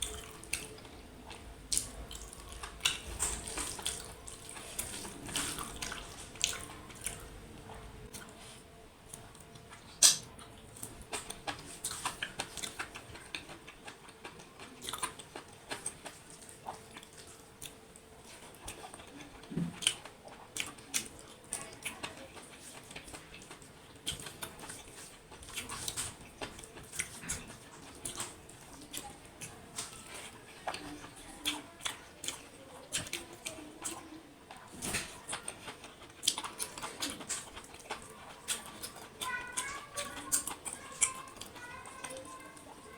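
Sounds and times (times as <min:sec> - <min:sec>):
close chewing and wet smacks: 0:00.0 - 0:42.9.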